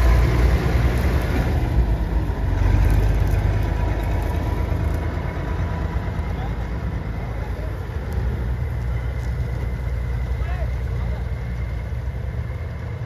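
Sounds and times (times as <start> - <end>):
tractor diesel engine rumbling: 0.0 - 13.0.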